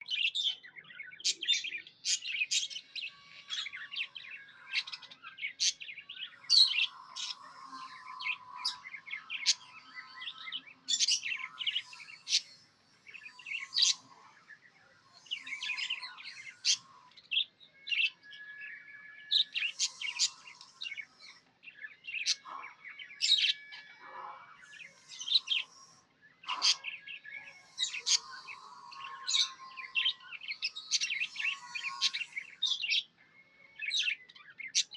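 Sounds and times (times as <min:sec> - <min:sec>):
budgerigars chirping and warbling: 0:00.0 - 0:34.9.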